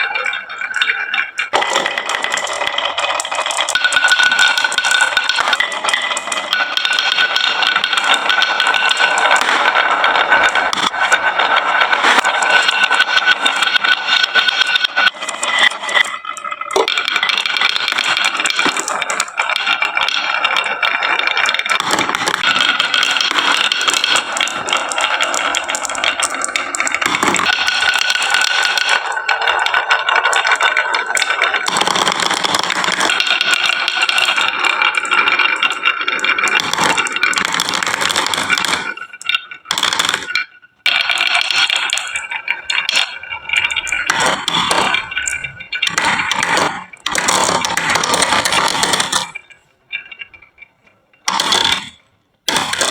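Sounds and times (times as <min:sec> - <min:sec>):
marbles rattling down wooden tracks: 0:00.0 - 0:52.9.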